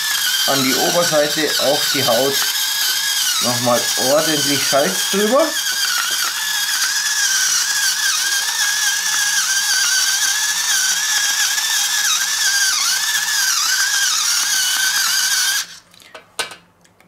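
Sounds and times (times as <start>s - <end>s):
electric salt mill grinding: 0.0s - 15.9s.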